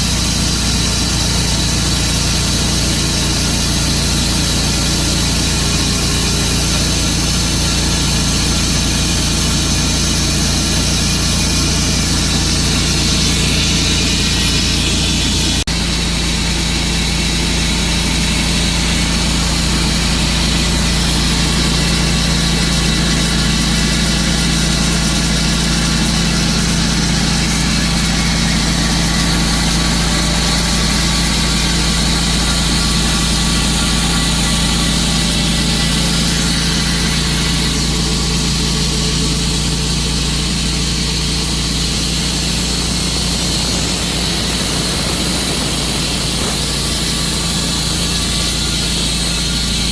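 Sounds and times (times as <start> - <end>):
sawmill engine running: 0.0 - 49.9.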